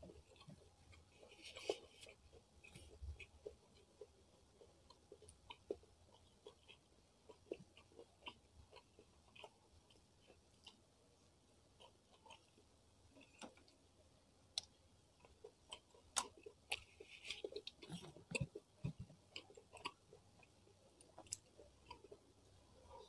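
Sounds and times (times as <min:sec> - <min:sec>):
close-miked chewing: 0:00.0 - 0:23.0.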